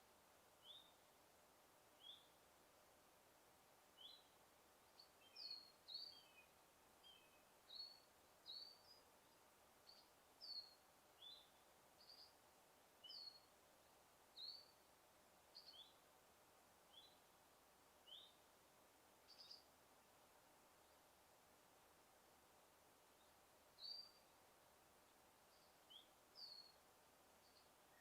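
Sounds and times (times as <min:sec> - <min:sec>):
faint forest ambience hiss: 0:00.0 - 0:28.0.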